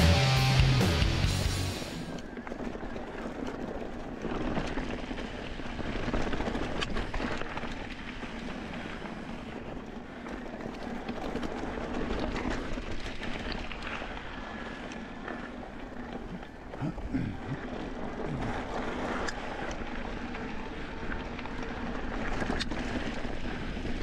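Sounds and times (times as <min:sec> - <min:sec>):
bike tyres crunching on gravel: 0:01.3 - 0:24.0
bike knocking and rattling on stones: 0:02.0 - 0:24.0.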